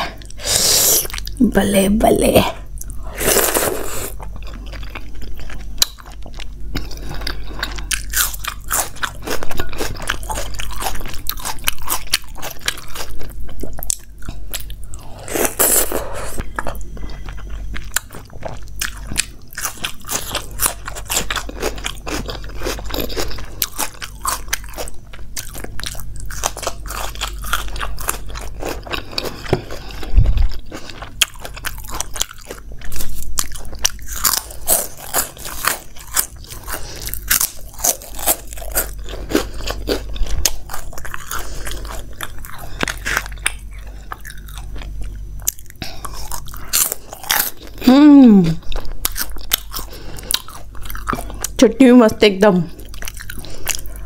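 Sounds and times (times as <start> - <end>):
person chewing crunchy food: 0.0 - 1.5, 2.6 - 52.0, 52.6 - 54.0.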